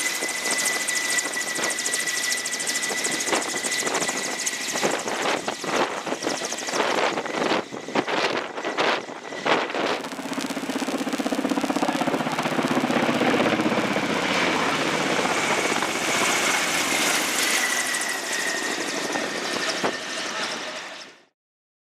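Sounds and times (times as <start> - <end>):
helicopter rotors beating: 0.0 - 21.2
turbine engine high whine: 0.0 - 21.3.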